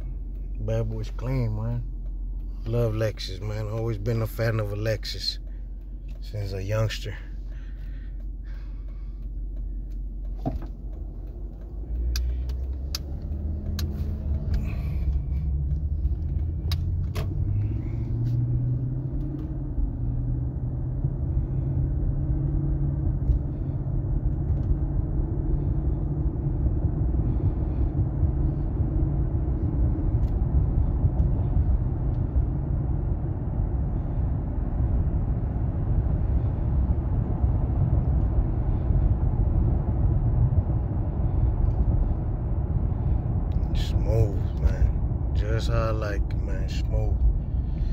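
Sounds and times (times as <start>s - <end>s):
car engine hum: 0.0s - 47.9s
road and tyre rumble: 0.0s - 47.9s.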